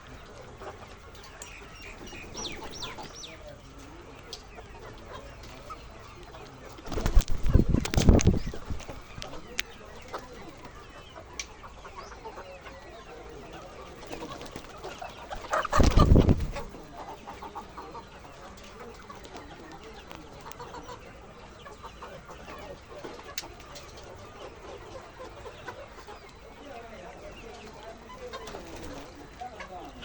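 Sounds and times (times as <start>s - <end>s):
hens clucking: 0.0s - 30.0s.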